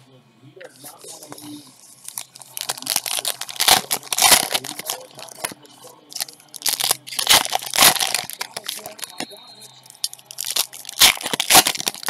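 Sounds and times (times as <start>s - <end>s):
foil wrappers tearing and crinkling: 0.8s - 9.2s, 9.9s - 12.0s.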